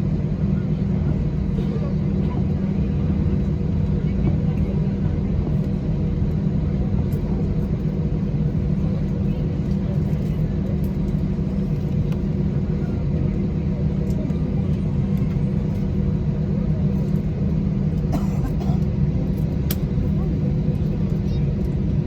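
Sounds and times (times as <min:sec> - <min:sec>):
jet engines and airflow in cabin: 0:00.0 - 0:22.0.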